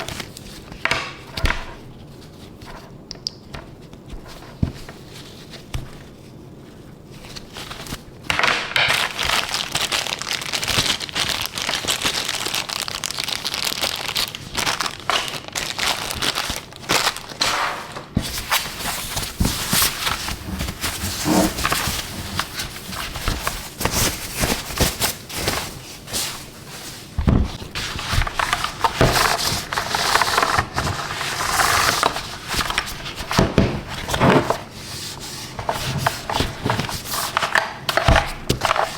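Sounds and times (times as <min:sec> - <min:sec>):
plastic wrapping crinkling: 0:03.8 - 0:38.9.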